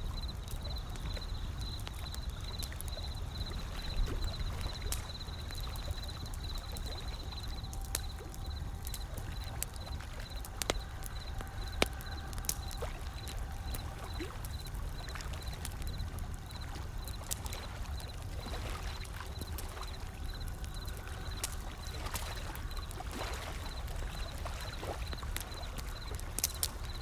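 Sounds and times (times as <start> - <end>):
wood fire crackling: 0.0 - 27.0
ocean waves: 2.5 - 27.0.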